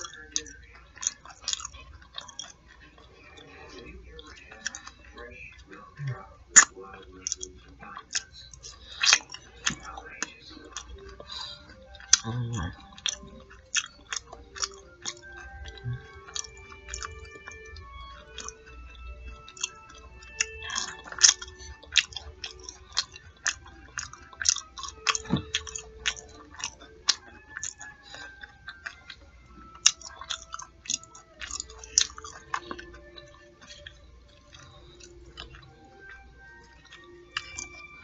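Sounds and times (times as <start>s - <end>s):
chewing with wet mouth clicks: 0.0s - 38.0s.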